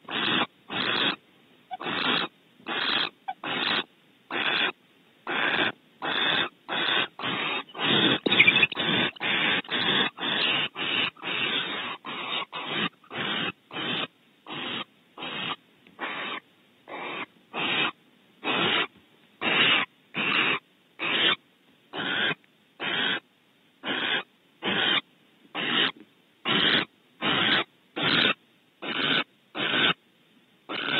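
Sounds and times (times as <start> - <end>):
barn owl hissing calls: 0.0 - 23.2, 23.8 - 30.0, 30.7 - 30.9.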